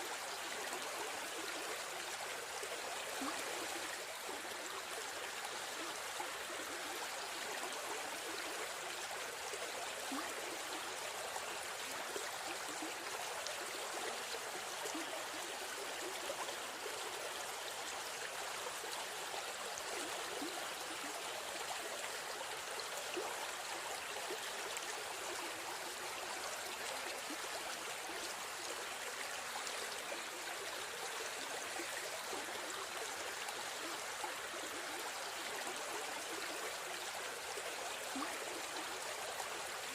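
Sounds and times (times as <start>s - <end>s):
stream babbling over rocks: 0.2s - 39.9s.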